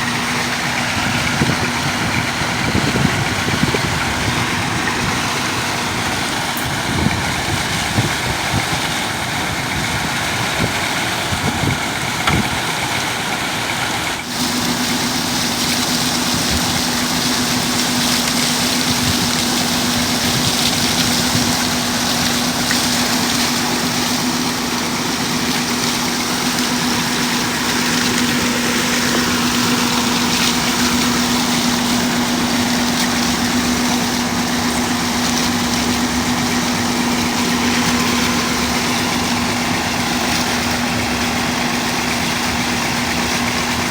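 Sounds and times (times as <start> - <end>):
constant low hum: 0.0 - 43.9
engine knocks: 0.0 - 43.9
tractor diesel engine running: 0.0 - 43.9.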